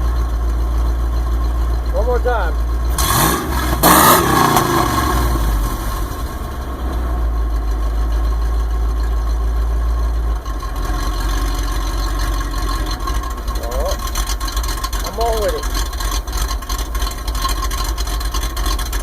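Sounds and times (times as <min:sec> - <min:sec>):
truck engine idling with lope: 0:00.0 - 0:19.0.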